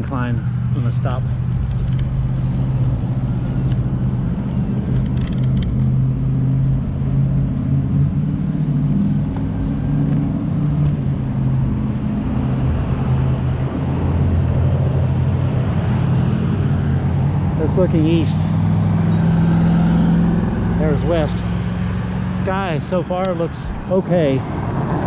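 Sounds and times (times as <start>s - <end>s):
road noise: 0.0s - 25.0s
traffic engine hum: 0.0s - 25.0s.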